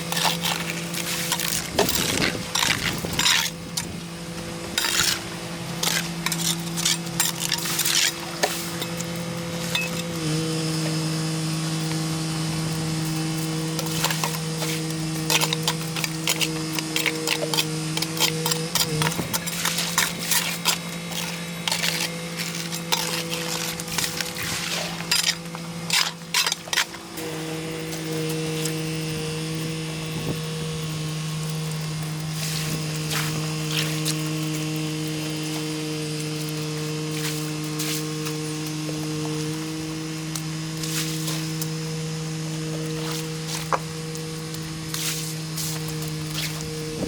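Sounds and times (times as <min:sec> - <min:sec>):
clicks and scraping: 0:00.0 - 0:04.0, 0:04.7 - 0:41.8
motor-driven tool humming: 0:00.0 - 0:47.0.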